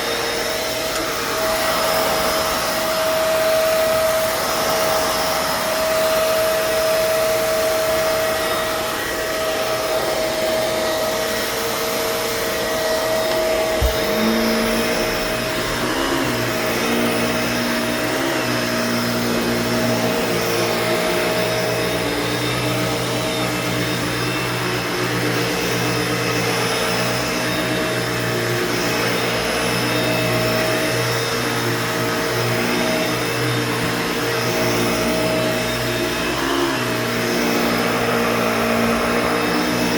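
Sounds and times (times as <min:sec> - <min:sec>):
vacuum cleaner whining: 0:00.0 - 0:39.9
whistly grinding noise: 0:00.0 - 0:39.9.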